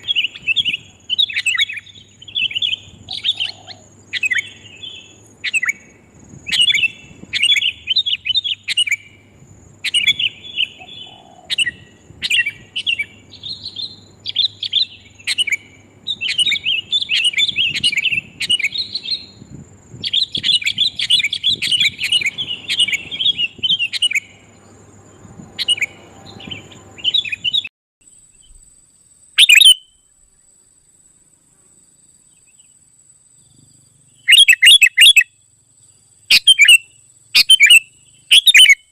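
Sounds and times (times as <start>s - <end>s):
birds chirping rapidly: 0.0s - 27.7s, 33.4s - 38.9s.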